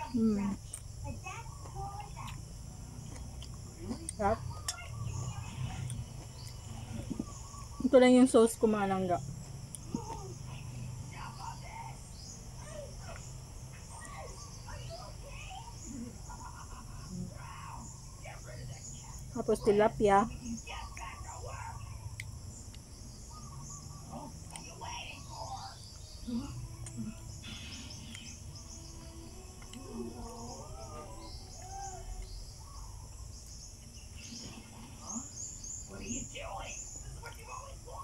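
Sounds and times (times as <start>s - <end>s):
birds chirping: 0.0s - 38.0s
insects droning: 0.0s - 38.0s
low outdoor rumble: 0.0s - 38.0s.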